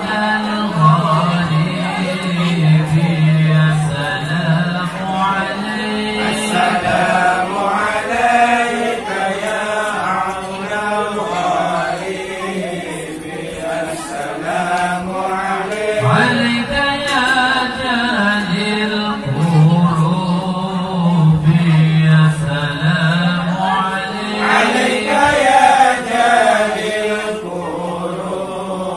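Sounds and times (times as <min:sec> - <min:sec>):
men chanting together: 0:00.0 - 0:28.9.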